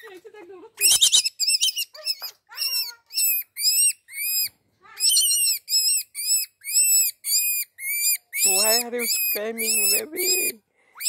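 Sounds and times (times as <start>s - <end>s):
baby rabbit screaming: 0.8s - 11.0s.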